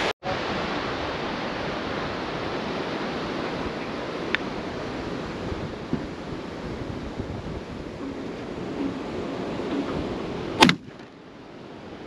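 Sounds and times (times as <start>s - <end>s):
ocean surf breaking: 0.0s - 12.0s
wind: 0.0s - 12.0s.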